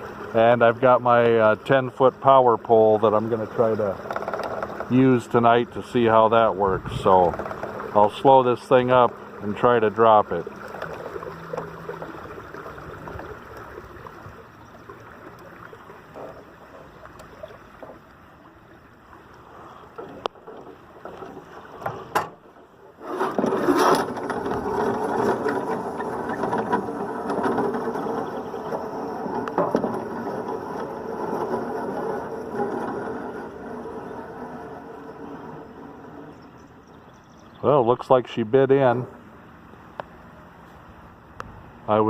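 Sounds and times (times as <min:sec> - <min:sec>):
motor noise: 0:00.0 - 0:37.8
water around canoe: 0:00.0 - 0:42.0.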